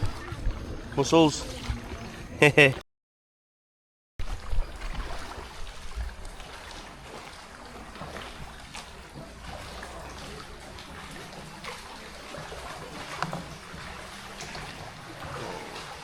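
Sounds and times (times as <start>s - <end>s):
water splashing from oars: 0.0s - 2.8s, 4.2s - 16.0s.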